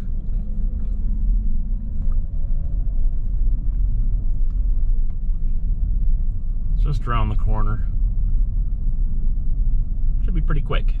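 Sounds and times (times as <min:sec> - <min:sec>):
engine drone: 0:00.0 - 0:11.0
tyre and road noise: 0:00.0 - 0:11.0.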